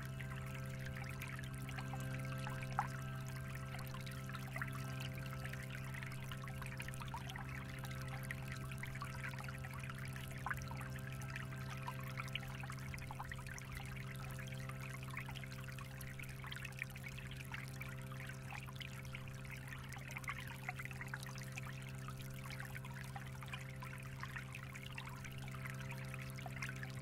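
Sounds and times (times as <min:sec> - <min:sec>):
low hum: 0:00.0 - 0:27.0
stream trickling over pebbles: 0:00.0 - 0:27.0.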